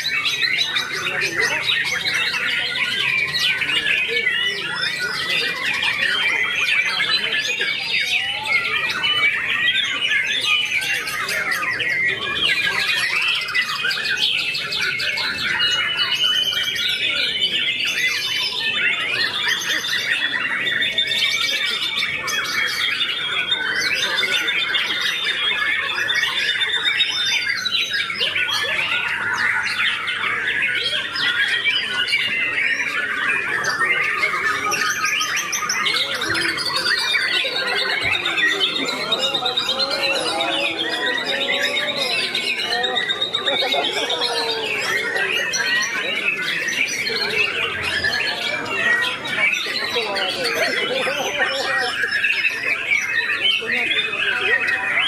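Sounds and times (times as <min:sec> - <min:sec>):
bird singing varied song: 0:00.0 - 0:55.0.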